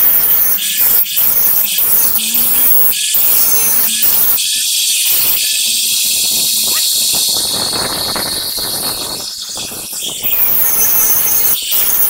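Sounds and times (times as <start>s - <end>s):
arc welding crackling sizzle: 0.0s - 12.0s.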